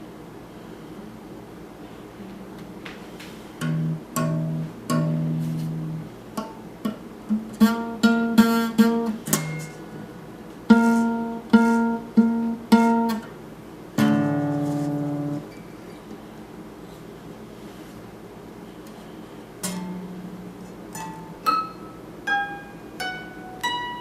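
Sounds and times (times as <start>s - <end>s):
acoustic guitar picked: 2.2s - 24.0s.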